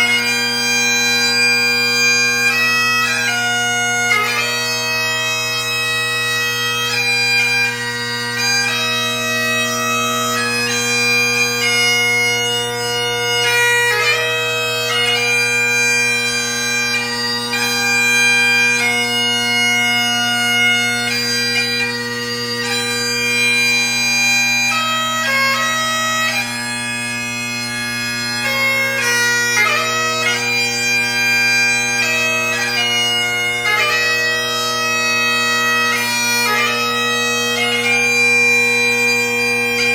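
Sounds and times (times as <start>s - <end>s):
bagpipe chanter melody: 0.0s - 39.9s
bagpipe drones: 0.0s - 39.9s.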